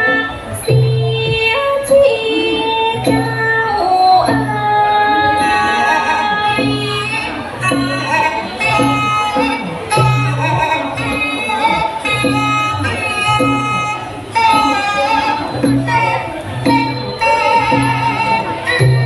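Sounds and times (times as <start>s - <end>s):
melody of gliding notes: 0.0s - 19.0s.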